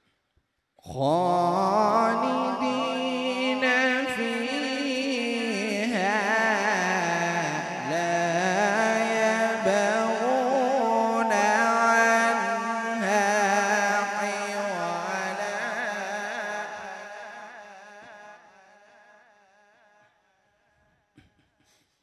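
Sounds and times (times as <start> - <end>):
man reciting melodically into microphone: 0.8 - 18.6.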